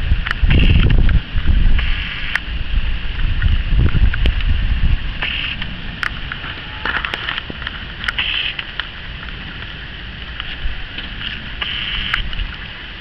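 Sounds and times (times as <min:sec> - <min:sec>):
scattered crackles and clicks: 0:00.0 - 0:13.0.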